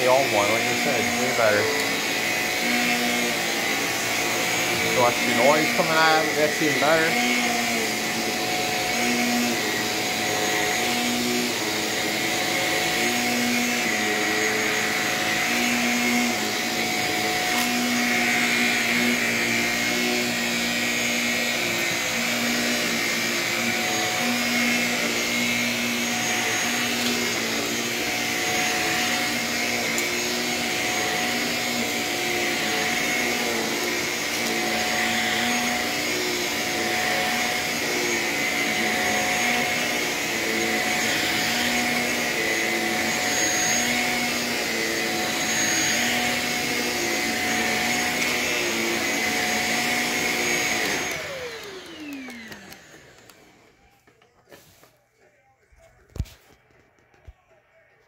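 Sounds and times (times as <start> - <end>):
stick vacuum running: 0.0 - 53.7
vacuum motor winding down: 0.0 - 53.7.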